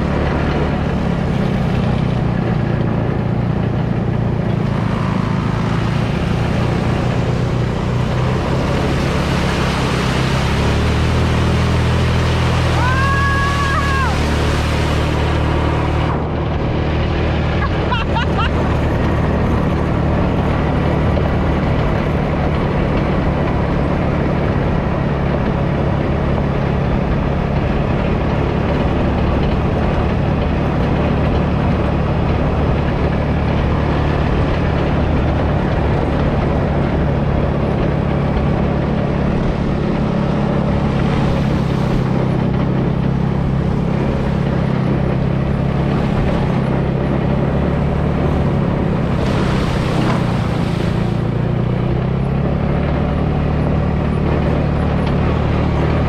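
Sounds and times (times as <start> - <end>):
dune buggy engine droning: 0.0 - 56.0.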